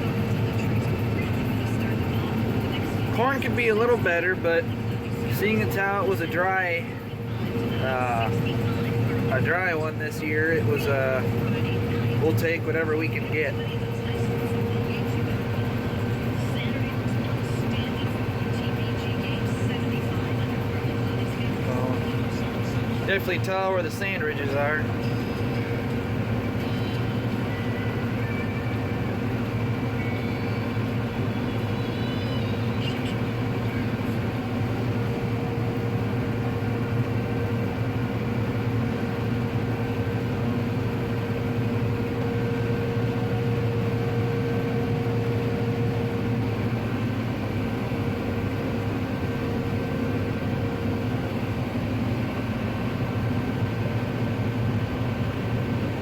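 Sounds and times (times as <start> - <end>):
combine harvester drone: 0.0 - 56.0
machinery whine: 0.0 - 56.0.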